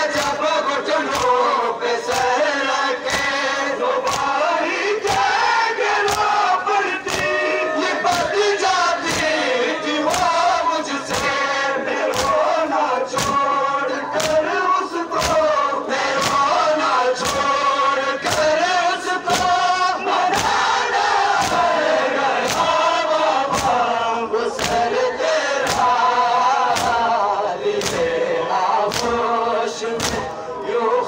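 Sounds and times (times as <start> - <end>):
crowd of men chanting: 0.0 - 31.0.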